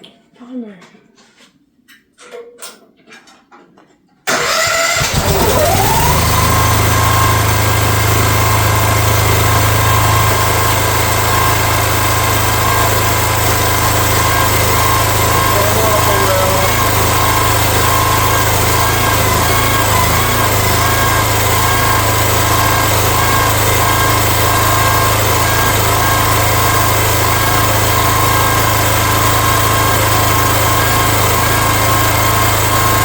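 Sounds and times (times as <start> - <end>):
excavator engine starting: 4.3 - 33.0.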